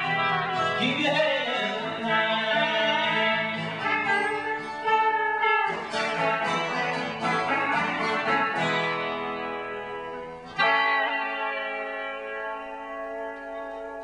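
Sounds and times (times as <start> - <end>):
guitar playing: 0.0 - 14.0.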